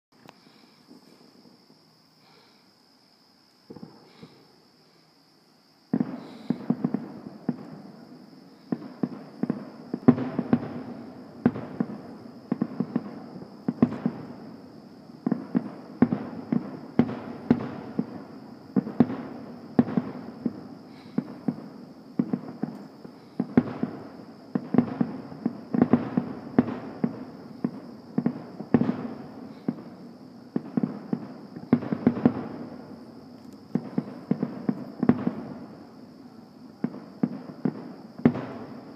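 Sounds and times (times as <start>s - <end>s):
fireworks booming: 3.6s - 4.5s, 5.9s - 38.9s.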